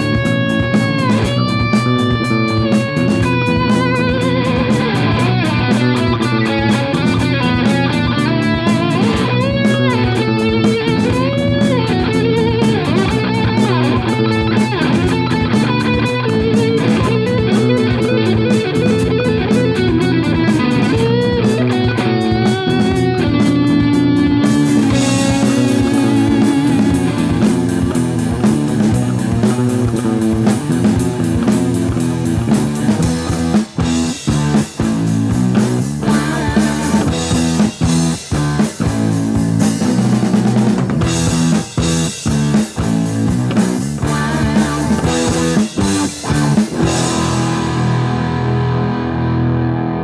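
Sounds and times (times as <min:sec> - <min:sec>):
rock song with distorted guitars: 0:00.0 - 0:50.0.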